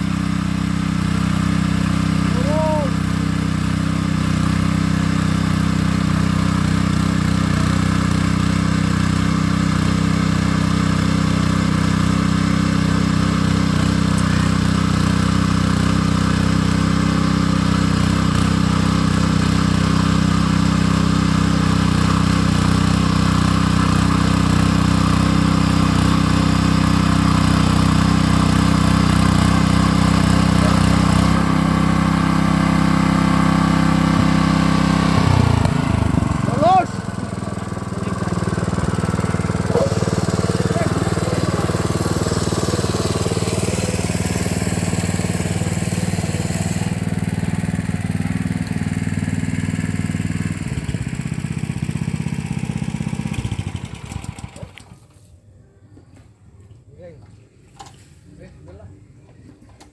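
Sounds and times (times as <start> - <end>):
tiller engine running: 0.0 - 55.1.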